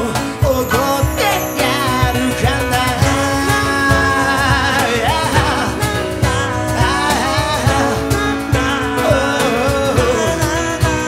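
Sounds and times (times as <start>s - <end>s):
live band music: 0.0s - 11.0s
man singing: 0.0s - 11.0s.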